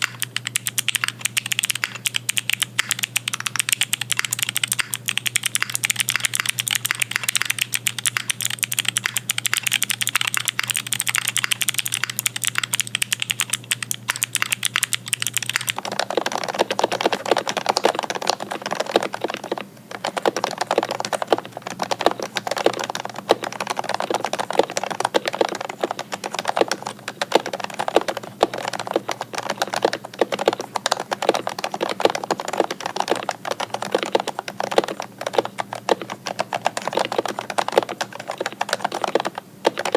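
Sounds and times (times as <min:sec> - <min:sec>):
faint low hum: 0:00.0 - 0:39.9
mechanical keyboard typing: 0:00.0 - 0:39.9.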